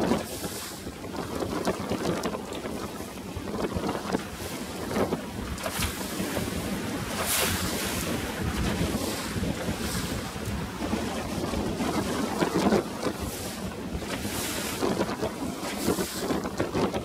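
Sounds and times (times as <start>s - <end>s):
strong wind buffeting microphone: 0.0s - 17.0s
waves splashing: 0.0s - 17.0s.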